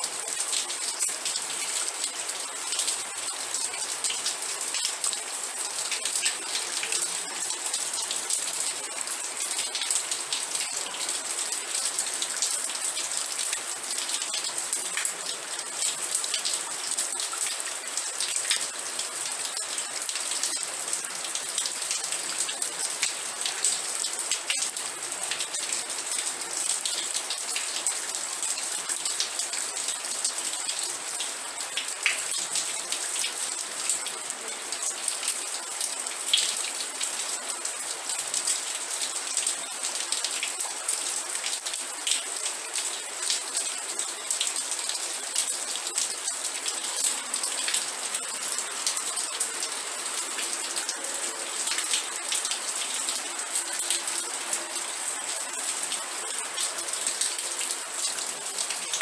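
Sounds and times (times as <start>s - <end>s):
rain pattering on surface: 0.0s - 59.0s.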